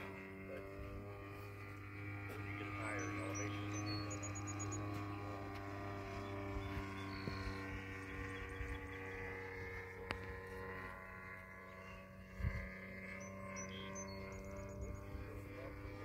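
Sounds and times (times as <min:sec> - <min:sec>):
model plane engine droning: 0:00.0 - 0:16.0.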